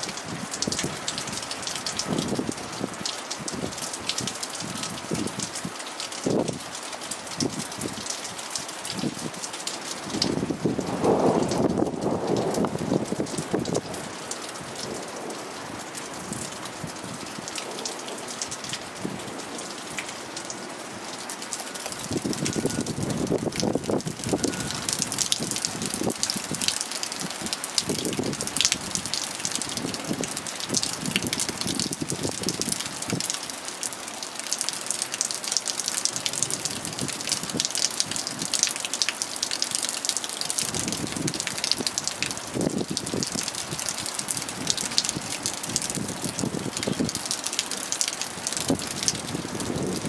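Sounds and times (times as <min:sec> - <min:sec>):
heavy rain on pavement: 0:00.0 - 0:50.0.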